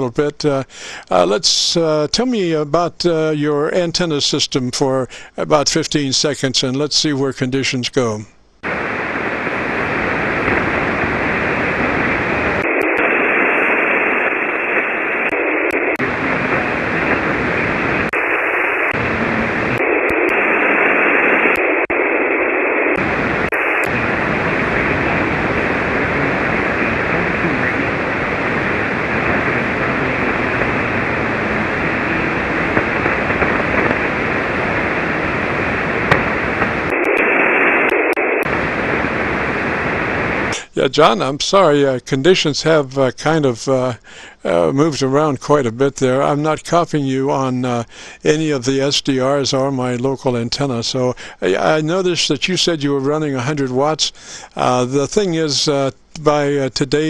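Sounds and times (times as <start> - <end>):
radio band noise rush: 0.0 - 57.0.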